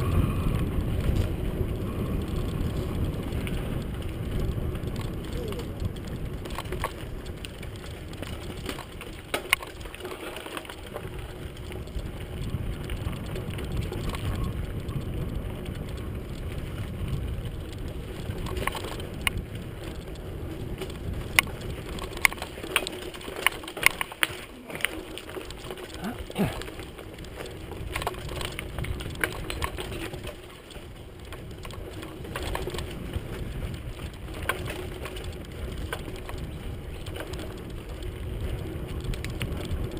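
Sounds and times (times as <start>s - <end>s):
bike clicking and rattling: 0.0s - 39.9s
wind and tyres rumbling: 0.0s - 39.9s.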